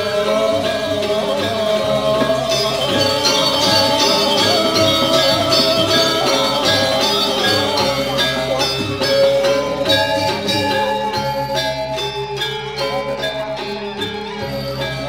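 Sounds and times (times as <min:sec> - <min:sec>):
gamelan playing: 0:00.0 - 0:15.0.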